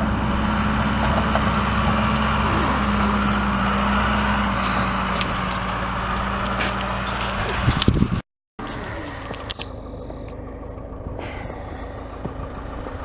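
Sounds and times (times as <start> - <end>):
backhoe diesel engine droning: 0.0 - 13.0.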